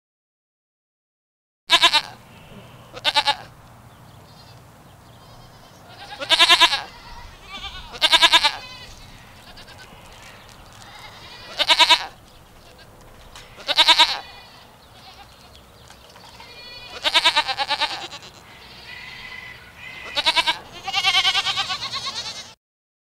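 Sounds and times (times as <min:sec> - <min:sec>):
goats bleating: 0:01.7 - 0:03.6, 0:04.3 - 0:15.6, 0:16.2 - 0:22.6.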